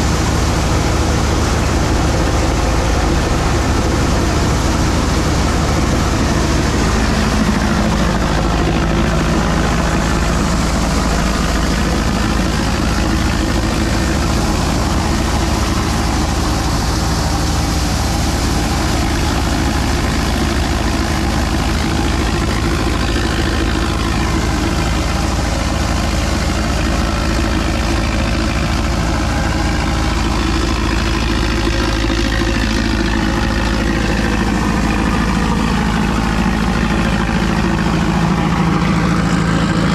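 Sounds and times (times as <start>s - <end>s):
thresher running under load: 0.0s - 39.9s.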